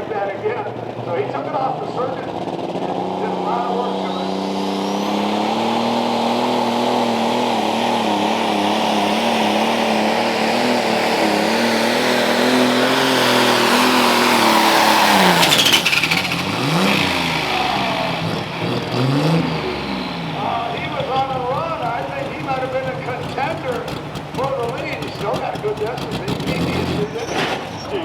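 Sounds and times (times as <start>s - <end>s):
tractor engine revving under load: 0.0s - 28.0s.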